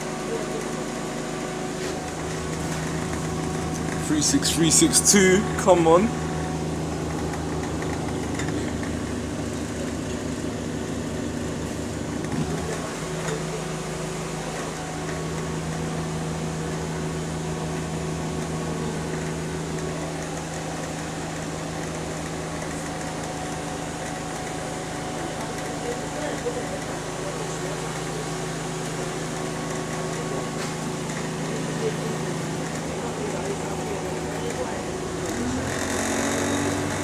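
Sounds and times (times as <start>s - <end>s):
bus engine humming: 0.0s - 37.0s.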